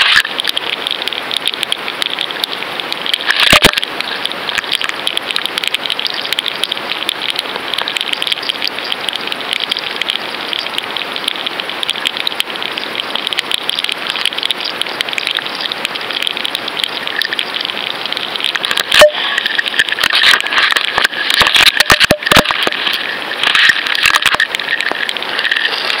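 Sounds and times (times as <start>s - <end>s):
underwater crackling hiss: 0.0s - 26.0s.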